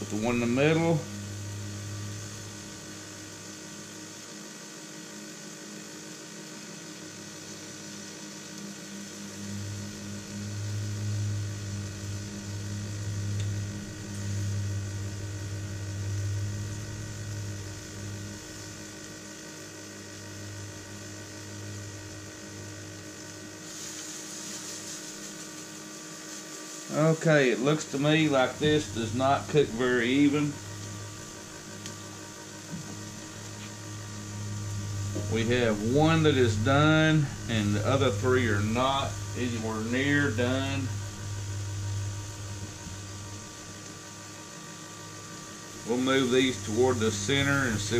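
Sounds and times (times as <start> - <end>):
grill electric hum and fan whir: 0.0 - 47.9
meat sizzling on grill: 0.0 - 47.9.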